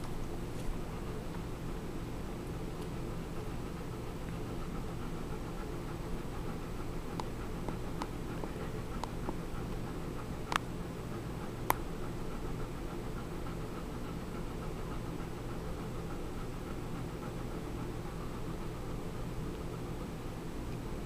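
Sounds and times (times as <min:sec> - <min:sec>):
room noise hum and hiss: 0:00.0 - 0:21.0.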